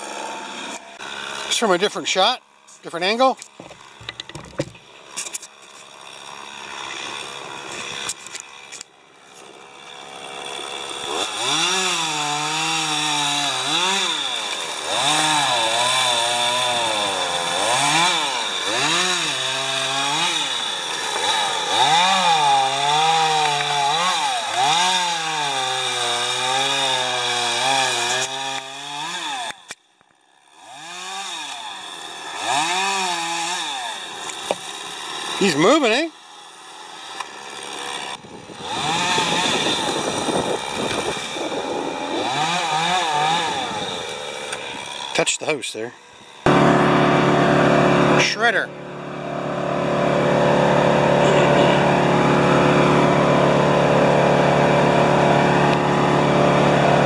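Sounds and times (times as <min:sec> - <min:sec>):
chainsaw revving while cutting: 0:00.0 - 0:57.0.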